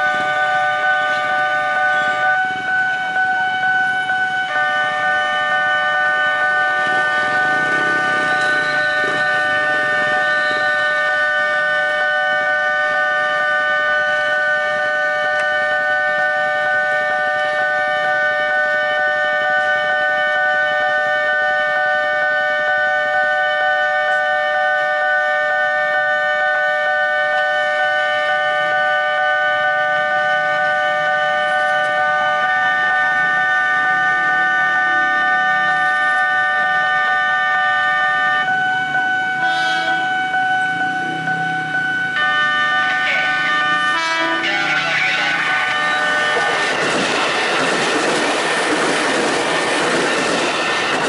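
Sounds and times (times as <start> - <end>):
level crossing alarm: 0.0 - 50.9.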